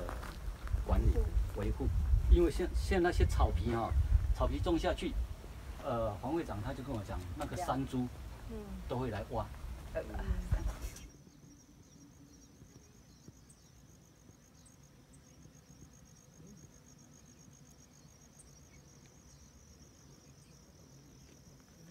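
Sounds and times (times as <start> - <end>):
crickets trilling: 0.0 - 21.9.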